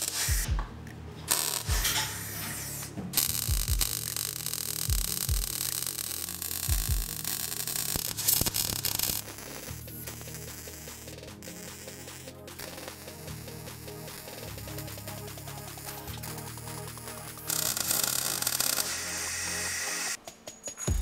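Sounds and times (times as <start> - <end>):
welder arc sizzling: 0.0 - 0.5, 1.3 - 20.2.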